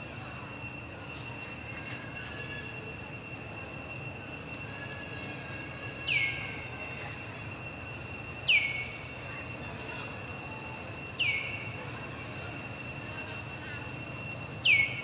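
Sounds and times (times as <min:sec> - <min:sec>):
high-pitched insect drone: 0:00.0 - 0:15.0
downward sweeping calls: 0:01.0 - 0:15.0.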